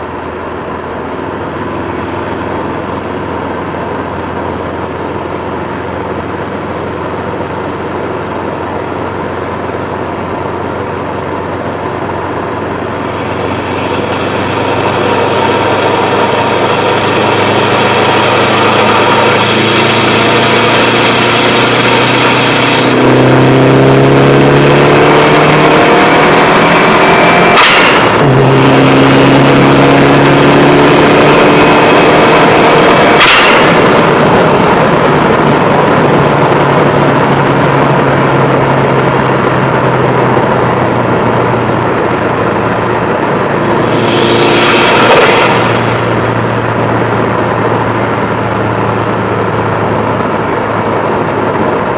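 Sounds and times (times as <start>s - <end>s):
turbocharged car engine accelerating: 0.0s - 51.9s.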